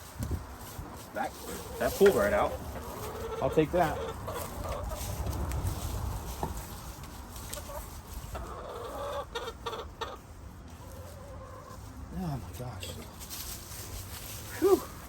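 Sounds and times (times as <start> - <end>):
hens clucking: 0.0 - 13.2.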